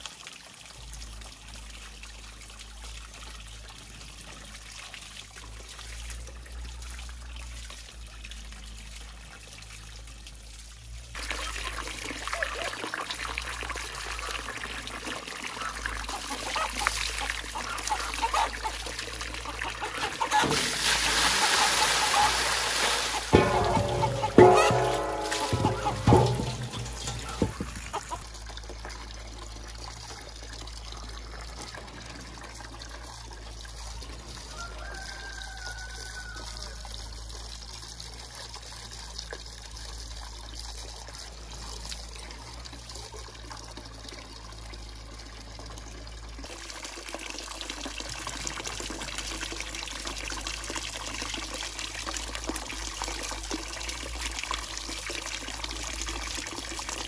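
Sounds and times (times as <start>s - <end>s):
water running into metal basin: 0.0s - 57.0s.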